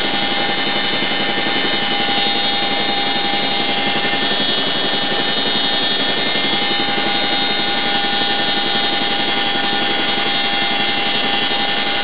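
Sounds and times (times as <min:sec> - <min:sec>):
constant whining tones: 0:00.0 - 0:12.0
helicopter rotors and engines droning: 0:00.0 - 0:12.0.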